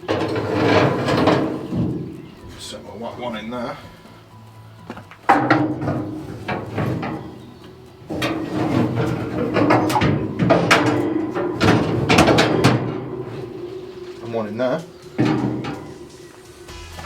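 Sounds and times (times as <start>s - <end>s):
metal grill grate scraping: 0.0s - 17.0s.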